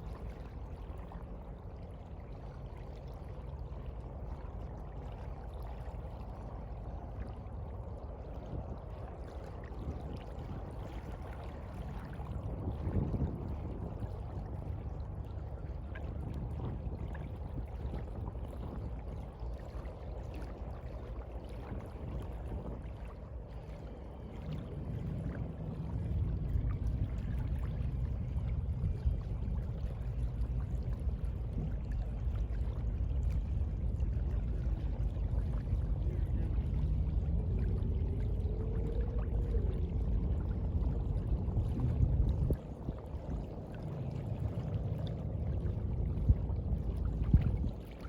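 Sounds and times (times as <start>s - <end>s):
sea water washing and surging: 0.0s - 48.0s.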